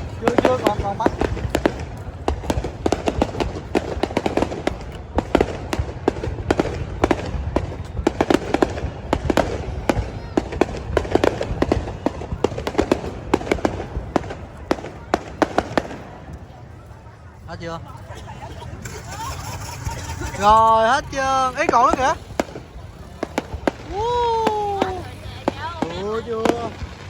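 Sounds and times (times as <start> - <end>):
fireworks bangs and crackling pops: 0.0 - 16.7, 18.8 - 27.0.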